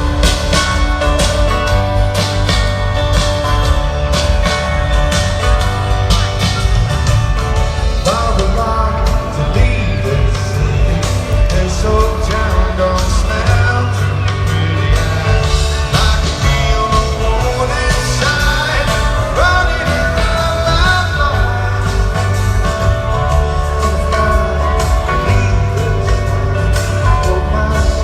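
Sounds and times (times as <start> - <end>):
live rock band with singing: 0.0 - 28.0.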